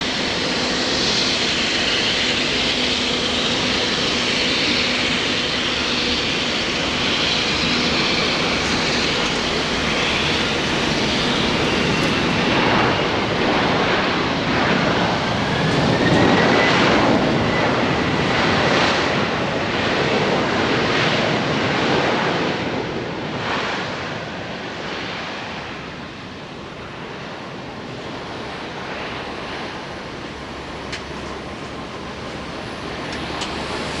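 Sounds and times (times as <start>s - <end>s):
jet engines whining: 0.0s - 21.0s, 24.7s - 34.0s.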